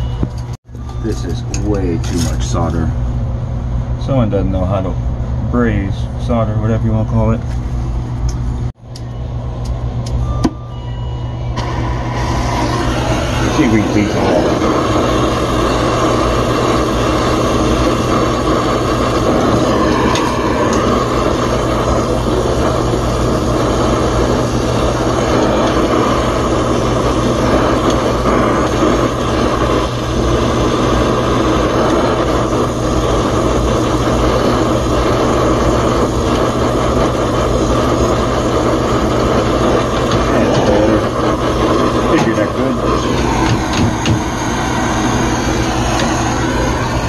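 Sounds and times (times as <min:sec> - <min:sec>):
steady low hum: 0:00.0 - 0:47.0
torch flame burning: 0:00.3 - 0:10.2, 0:11.6 - 0:47.0.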